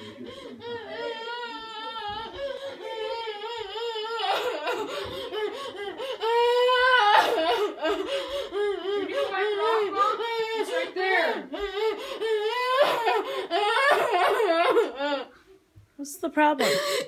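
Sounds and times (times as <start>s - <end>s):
girl crying and wailing: 0.6s - 15.3s.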